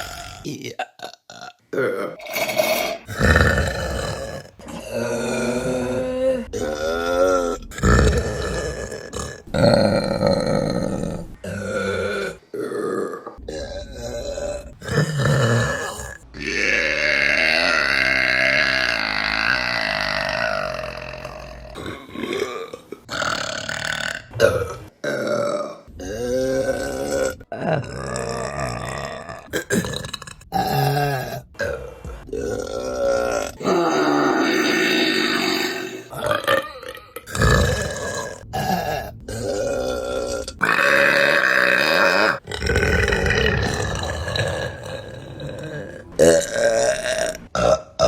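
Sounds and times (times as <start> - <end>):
women burping: 0.0 - 48.0.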